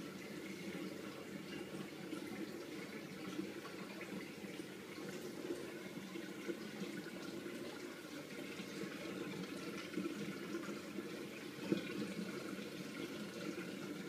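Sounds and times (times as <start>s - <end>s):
aquarium water trickling: 0.0s - 14.0s.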